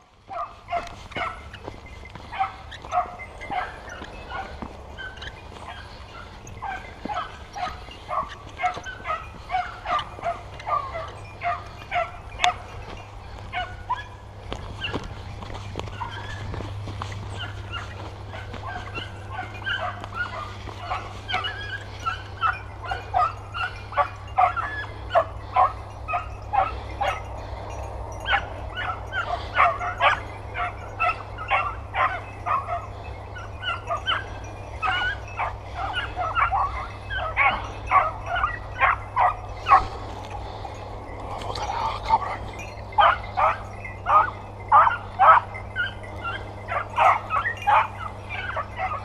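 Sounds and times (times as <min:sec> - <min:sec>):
puppies barking and yipping: 0:00.0 - 0:49.0.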